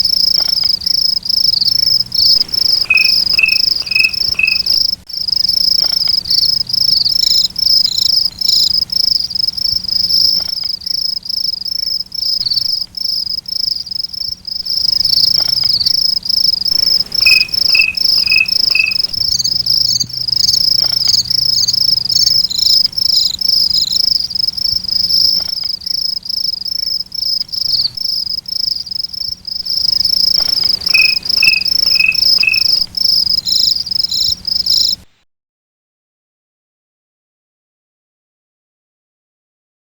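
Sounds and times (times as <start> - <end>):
crickets chirping trill: 0.0 - 35.0
lower chirp: 0.1 - 35.0.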